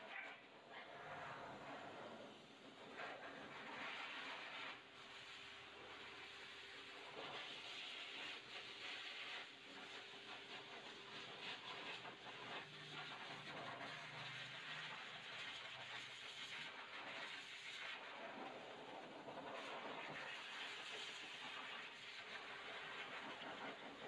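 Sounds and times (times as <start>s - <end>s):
hiss: 0.8s - 24.0s.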